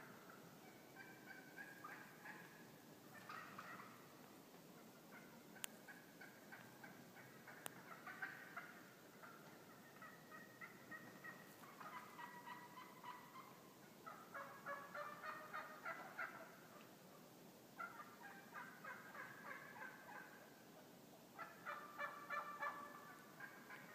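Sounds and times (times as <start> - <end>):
wild turkeys calling: 0.0 - 23.9.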